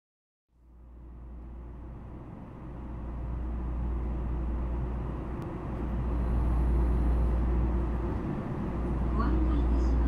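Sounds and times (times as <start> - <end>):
train interior hum and rumble: 0.5 - 10.0.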